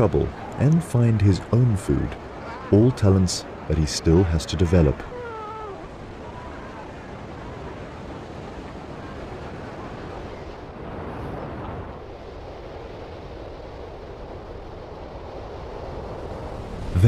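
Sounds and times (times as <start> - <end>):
ocean surf washing on shore: 0.0 - 17.0.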